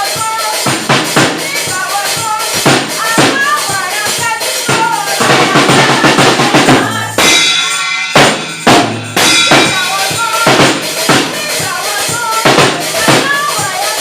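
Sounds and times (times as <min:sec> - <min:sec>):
drum kit beating: 0:00.0 - 0:14.0
loud drum-led music: 0:00.0 - 0:14.0.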